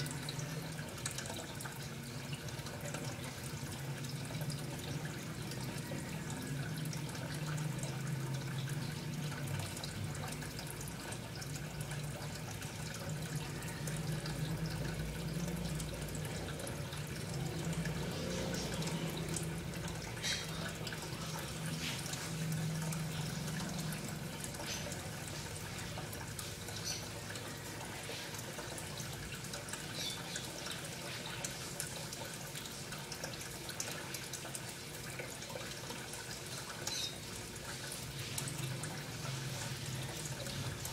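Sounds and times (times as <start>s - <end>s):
running trickling water: 0.0s - 40.9s
water drips: 0.0s - 40.9s.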